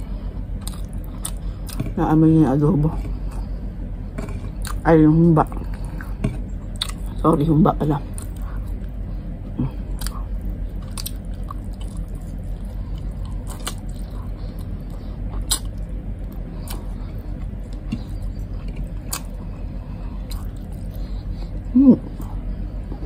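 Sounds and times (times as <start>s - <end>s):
person chewing food: 0.0s - 2.0s, 2.6s - 4.8s, 5.4s - 22.9s
steady low hum: 0.0s - 23.0s.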